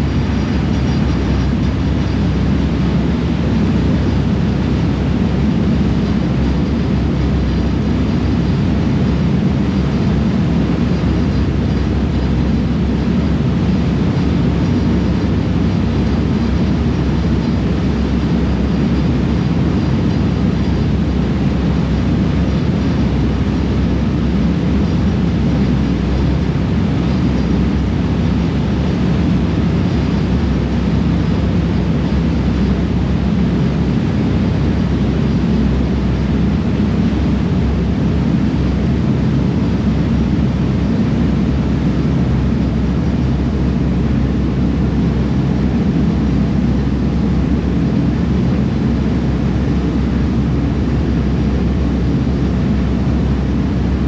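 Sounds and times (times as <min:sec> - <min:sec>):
ferry engines droning: 0:00.0 - 0:54.0.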